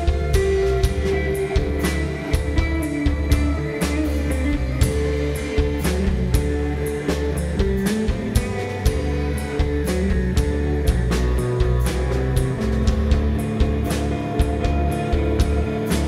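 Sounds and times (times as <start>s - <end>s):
drum kit beat with cymbals: 0.0s - 16.0s
electric bass: 0.0s - 16.0s
electric guitar: 0.0s - 16.0s.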